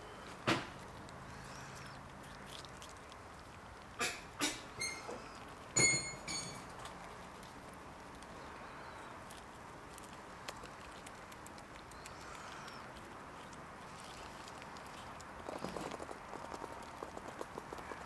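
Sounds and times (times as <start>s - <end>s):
squirrel chewing clicks: 0.4s - 18.0s.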